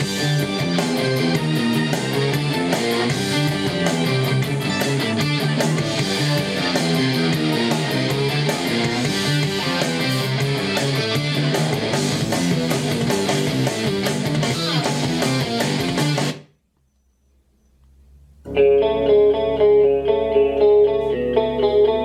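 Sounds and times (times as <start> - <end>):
guitar rock music: 0.0 - 16.5, 18.5 - 22.0.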